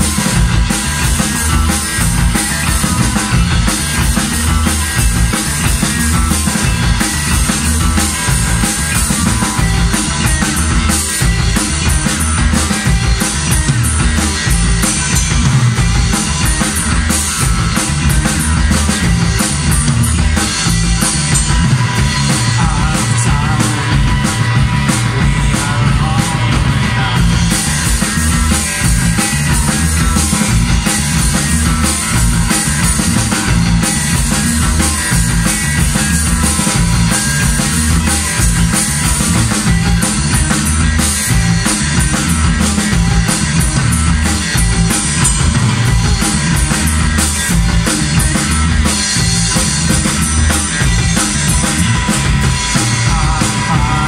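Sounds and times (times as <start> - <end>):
drum kit: 0.0 - 54.0
electric bass: 0.0 - 54.0
electric guitar: 0.0 - 54.0.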